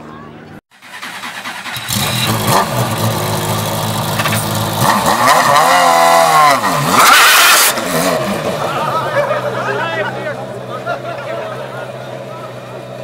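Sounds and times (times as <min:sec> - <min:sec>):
car engine idling and revving: 0:00.8 - 0:13.0.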